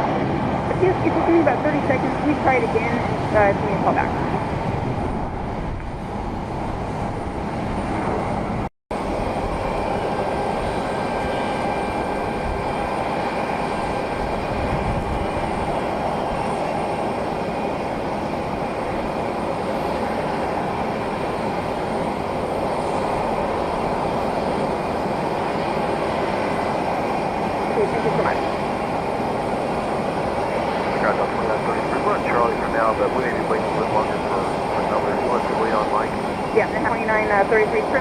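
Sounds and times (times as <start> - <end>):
faint jet engine whine: 0.0 - 38.0
jet engine rumble: 0.0 - 38.0.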